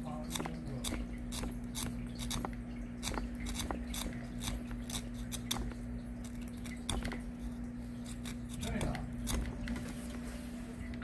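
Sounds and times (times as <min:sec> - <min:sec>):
knife blade scraping: 0:00.3 - 0:09.9.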